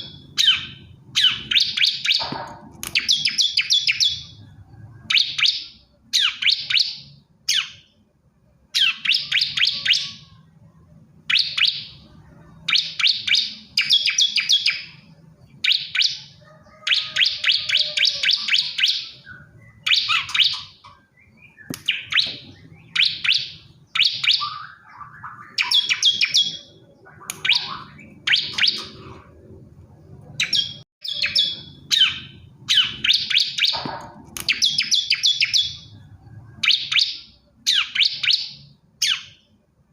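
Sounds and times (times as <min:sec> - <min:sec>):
bird singing high chirps: 0:00.0 - 0:08.0, 0:08.7 - 0:39.6.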